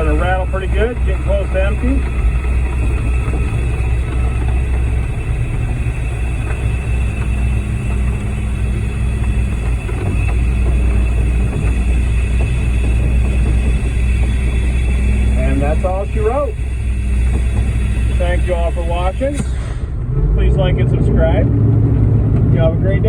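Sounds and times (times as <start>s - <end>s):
mixer drum turning and rattling: 0.0s - 20.1s
truck engine running: 0.0s - 23.0s.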